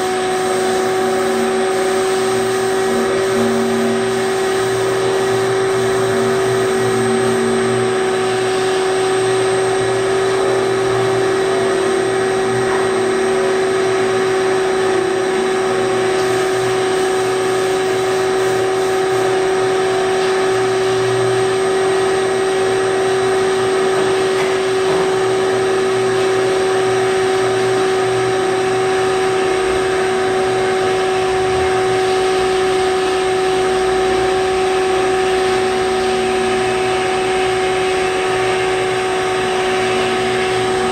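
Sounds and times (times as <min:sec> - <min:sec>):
machine drone with whine: 0:00.0 - 0:40.9.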